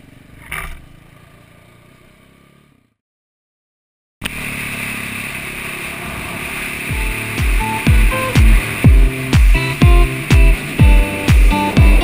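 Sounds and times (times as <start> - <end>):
motorcycle engine running: 0.0 - 3.0, 4.2 - 12.0.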